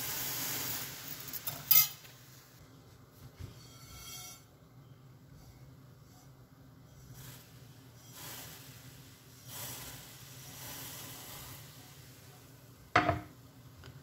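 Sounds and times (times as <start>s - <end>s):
boiling water hissing: 0.0s - 2.7s, 5.2s - 14.0s.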